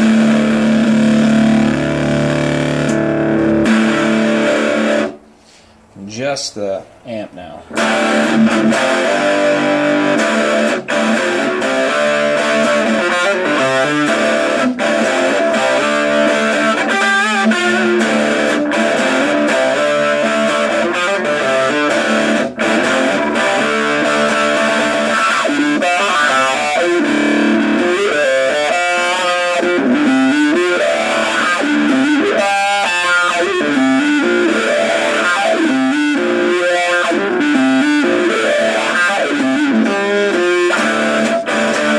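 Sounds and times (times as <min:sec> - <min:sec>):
electric guitar riffs: 0:00.0 - 0:06.7, 0:07.3 - 0:41.9.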